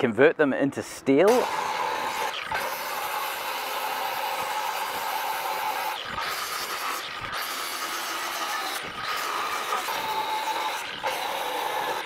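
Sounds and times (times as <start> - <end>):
angle grinder cutting steel: 1.3 - 12.0.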